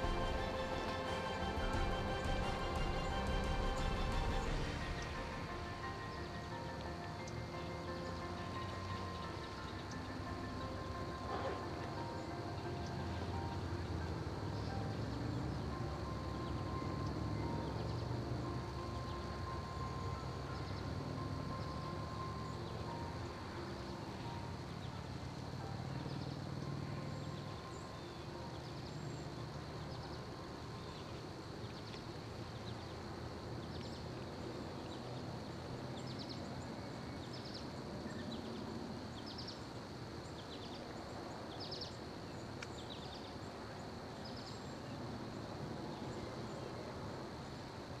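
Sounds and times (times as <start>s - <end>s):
high-pitched insect drone: 0.0s - 48.0s.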